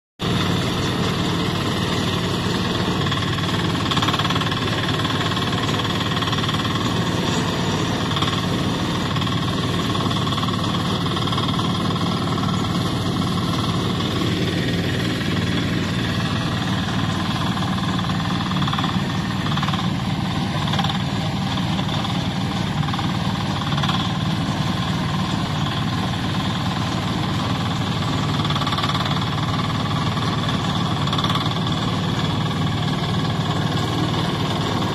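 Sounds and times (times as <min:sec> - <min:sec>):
diesel engine knocking steadily: 0:00.2 - 0:34.9.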